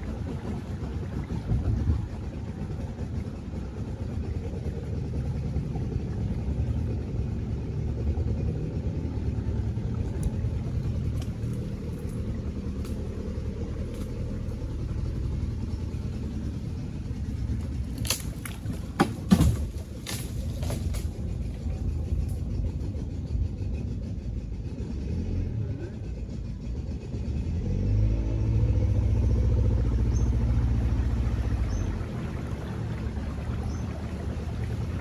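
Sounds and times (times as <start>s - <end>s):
outboard motor running slowly: 0.0s - 35.0s.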